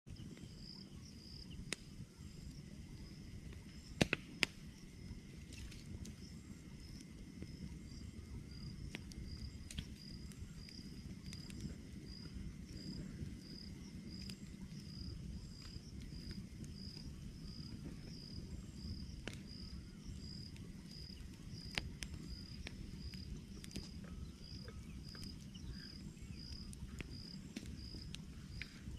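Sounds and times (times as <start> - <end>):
wood fire crackling: 0.1 - 28.9.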